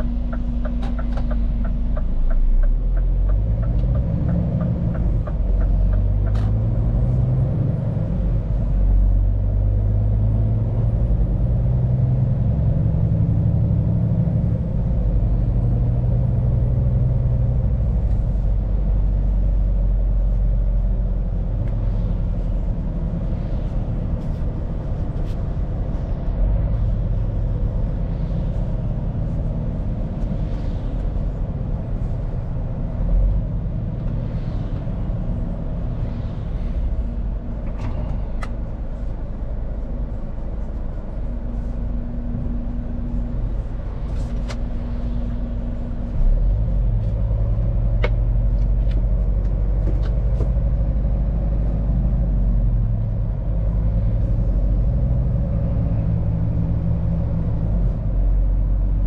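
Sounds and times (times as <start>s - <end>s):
truck diesel engine driving: 0.0s - 59.0s.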